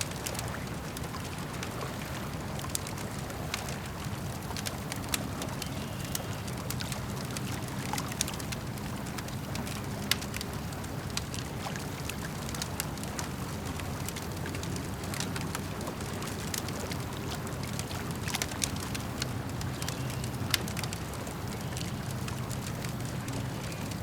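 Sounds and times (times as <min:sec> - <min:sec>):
campfire crackling: 0:00.0 - 0:24.0
lake water lapping: 0:00.0 - 0:24.0.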